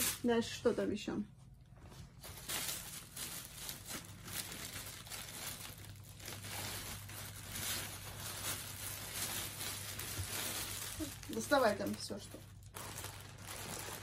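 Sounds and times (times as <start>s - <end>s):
plastic bag rustling: 0.0s - 0.7s, 1.7s - 14.0s.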